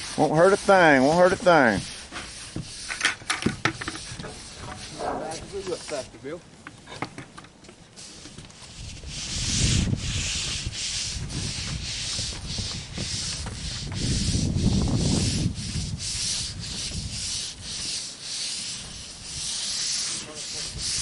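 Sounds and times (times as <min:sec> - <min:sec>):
paint roller scraping on roof: 0:00.0 - 0:06.4, 0:08.0 - 0:21.0.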